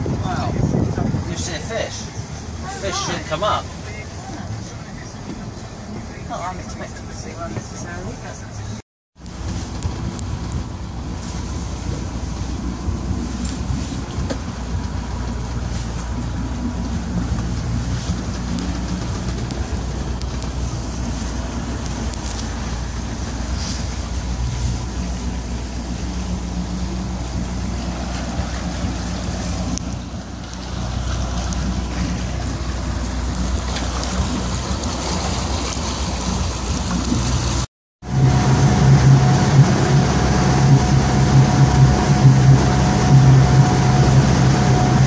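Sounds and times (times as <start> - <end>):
boat engine humming: 0.0 - 45.0
rushing water: 0.0 - 45.0
wind: 0.0 - 45.0.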